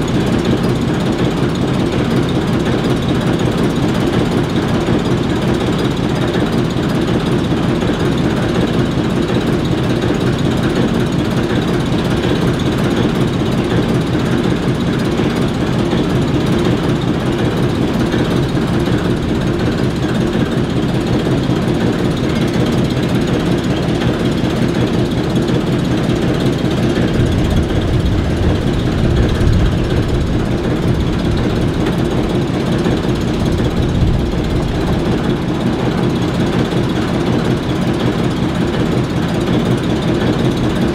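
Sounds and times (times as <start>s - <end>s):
diesel locomotives idling: 0.0s - 40.9s.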